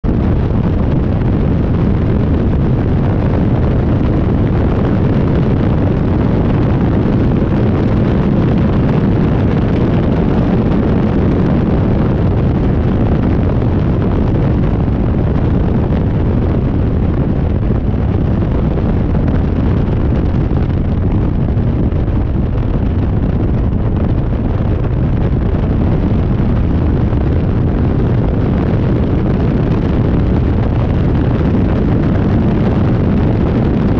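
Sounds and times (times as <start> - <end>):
wind buffeting on microphone: 0.0 - 33.9.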